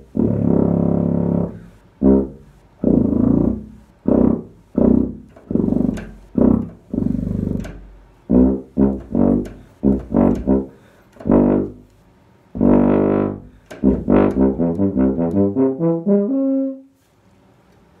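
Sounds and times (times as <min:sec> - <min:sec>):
tuba playing low notes: 0:00.0 - 0:17.0.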